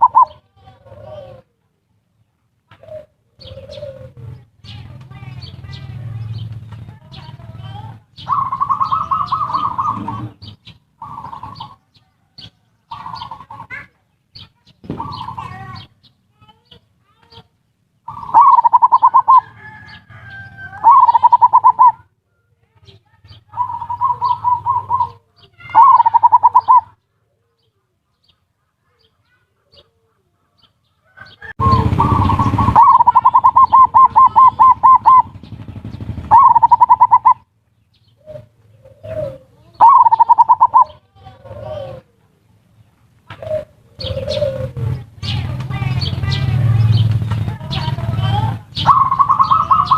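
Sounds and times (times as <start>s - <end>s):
doves cooing: 0.0s - 16.1s, 18.0s - 22.2s, 22.8s - 49.9s.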